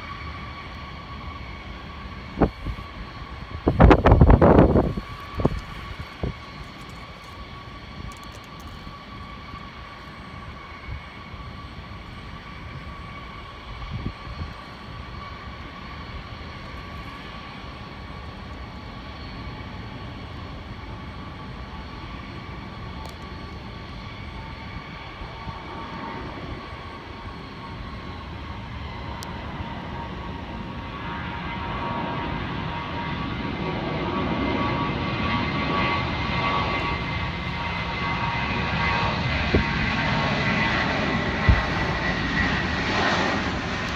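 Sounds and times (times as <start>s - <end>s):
distant jet engines running: 0.0s - 43.9s.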